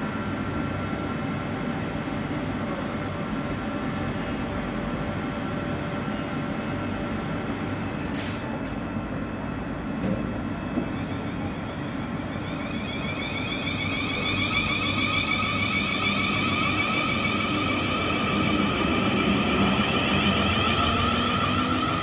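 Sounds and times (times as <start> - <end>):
train equipment rumble and hum: 0.0 - 22.0.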